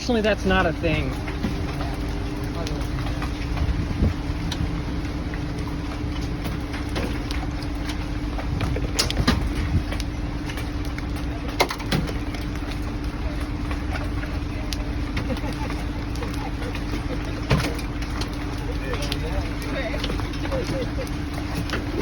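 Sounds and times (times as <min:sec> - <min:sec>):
vehicle low hum: 0:00.0 - 0:22.0.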